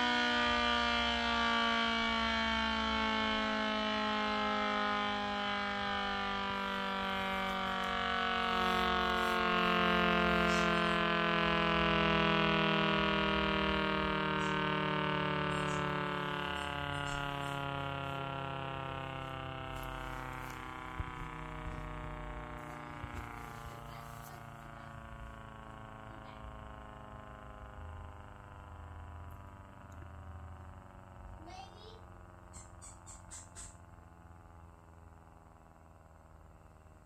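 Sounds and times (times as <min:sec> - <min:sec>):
electric motor whine winding down: 0:00.0 - 0:37.0.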